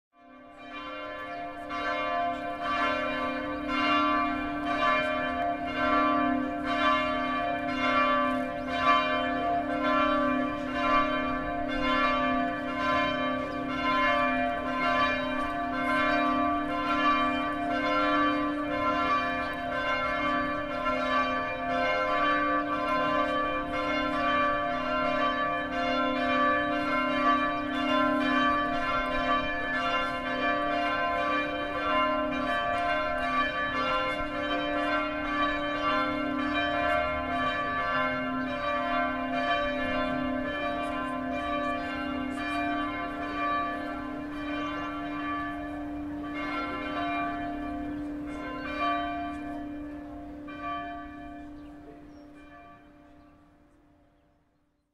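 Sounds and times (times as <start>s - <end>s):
church bell tolling: 0.2s - 54.0s.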